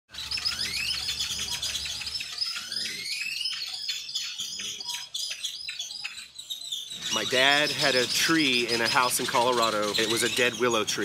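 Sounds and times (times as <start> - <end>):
birds chirping: 0.1 - 11.0
rising whistled bird notes: 0.1 - 11.0.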